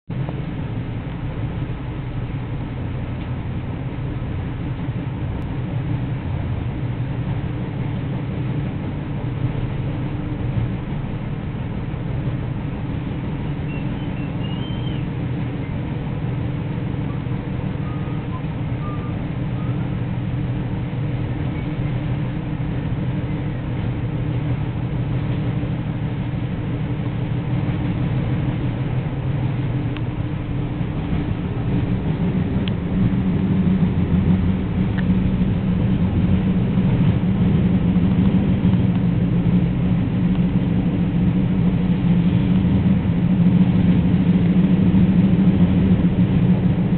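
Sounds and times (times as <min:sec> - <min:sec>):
low train hum: 0:00.0 - 0:46.9
train wheels rumbling on track: 0:00.0 - 0:46.9.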